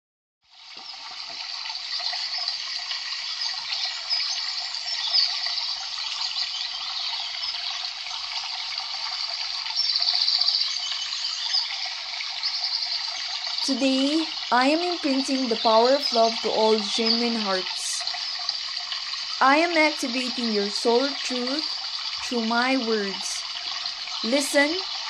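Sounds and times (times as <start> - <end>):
running water: 0.4 - 25.0.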